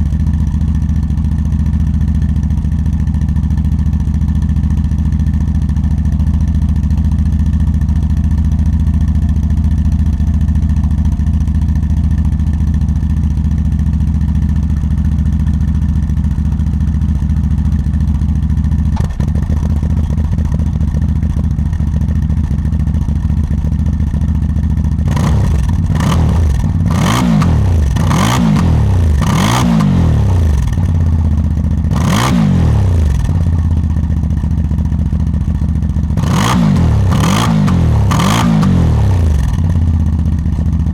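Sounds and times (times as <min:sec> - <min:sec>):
atv engine idling and revving: 0:00.0 - 0:40.9.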